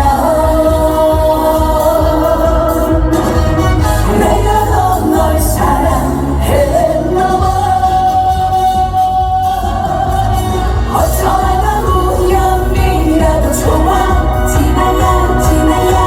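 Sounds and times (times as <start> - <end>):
amplified band playing: 0.0 - 16.0
man singing: 0.0 - 16.0.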